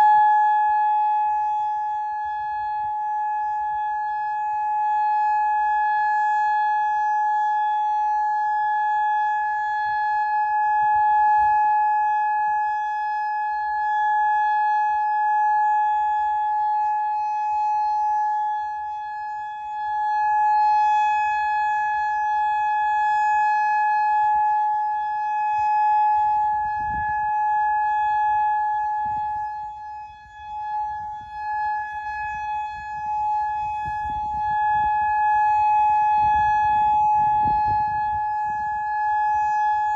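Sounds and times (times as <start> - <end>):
electronic siren steady tone: 0.0 - 39.9.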